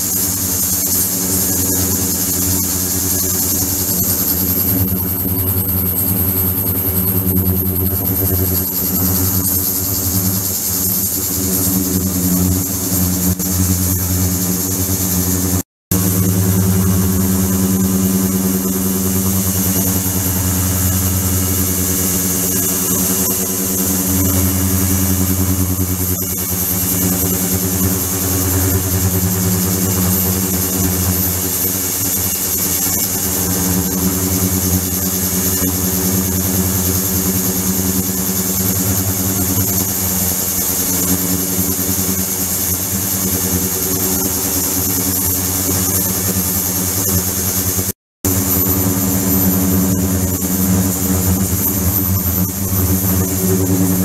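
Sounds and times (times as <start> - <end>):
electrical hum with high hiss: 0.0 - 47.6.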